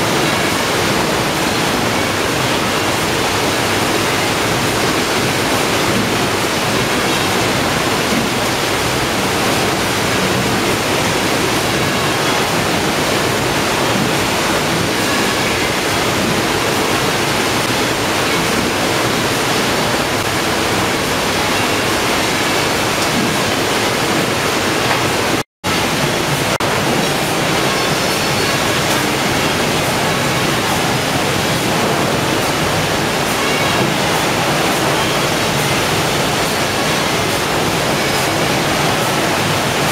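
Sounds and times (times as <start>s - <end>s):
processing line conveyors: 0.0s - 39.9s.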